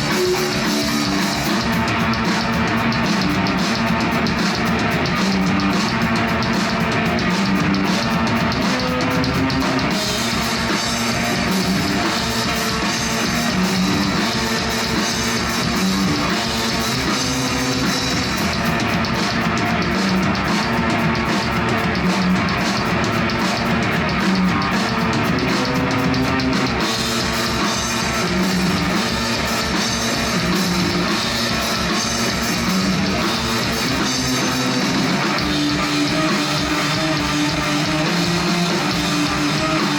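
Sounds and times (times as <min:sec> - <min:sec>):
bass line: 0:00.0 - 0:39.9
drum kit: 0:00.0 - 0:39.9
electric guitar: 0:00.0 - 0:39.9.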